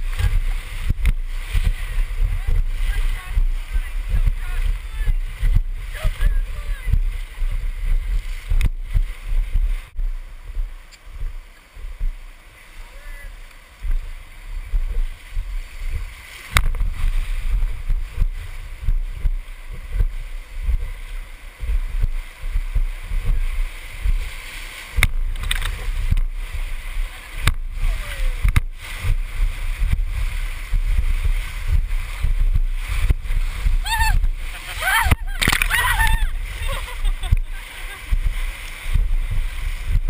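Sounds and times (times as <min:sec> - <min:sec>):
whitewater rushing and gurgling: 0:00.0 - 0:40.0
wind buffeting on microphone: 0:00.0 - 0:40.0.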